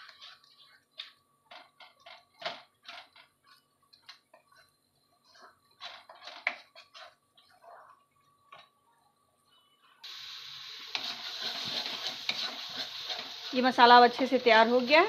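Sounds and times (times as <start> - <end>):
wooden spatula scraping a pan: 0.0 - 8.7, 10.8 - 14.9
frying masala popping: 0.0 - 15.0.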